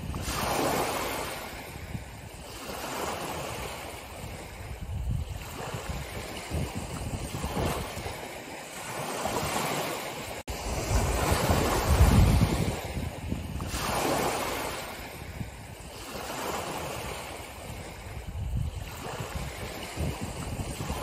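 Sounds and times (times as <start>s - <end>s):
waves washing up stony beach: 0.0s - 21.0s
wind rumbling on microphone: 0.0s - 21.0s.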